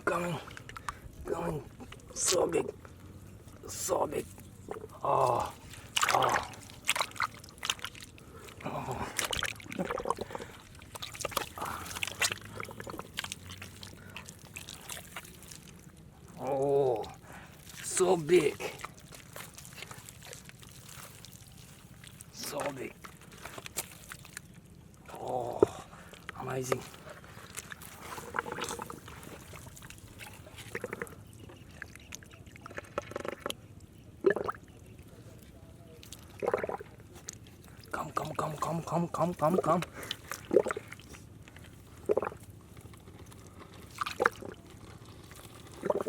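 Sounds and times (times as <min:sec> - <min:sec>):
muddy water squelching and splashing: 0:00.0 - 0:46.0
small wet clicks: 0:00.0 - 0:46.0.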